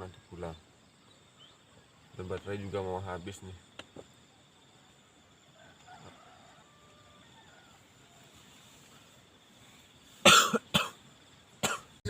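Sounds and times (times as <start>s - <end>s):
faint bird chirps: 0.0s - 10.2s
high insect drone: 0.0s - 12.0s.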